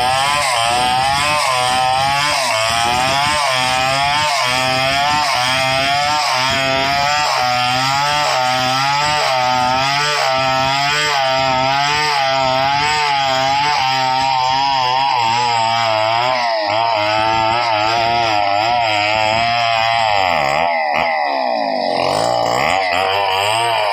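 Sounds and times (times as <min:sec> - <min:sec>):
chainsaw cutting a log: 0:00.0 - 0:23.9.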